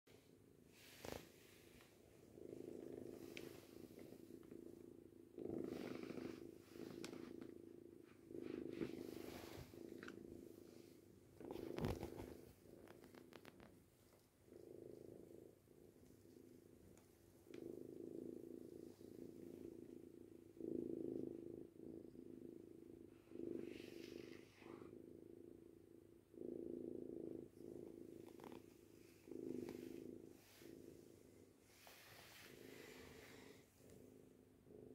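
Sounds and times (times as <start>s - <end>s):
kitten purring: 0.1s - 34.9s.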